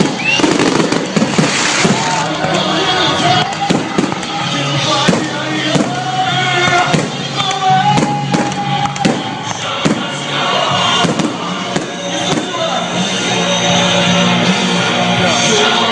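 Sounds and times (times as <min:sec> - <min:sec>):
fireworks bangs: 0:00.0 - 0:12.8
music: 0:00.0 - 0:15.9.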